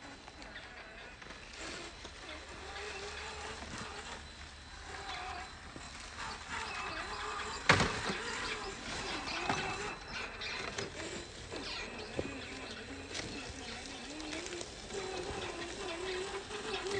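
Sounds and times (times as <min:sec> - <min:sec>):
rc truck motor whining: 0:00.0 - 0:16.9.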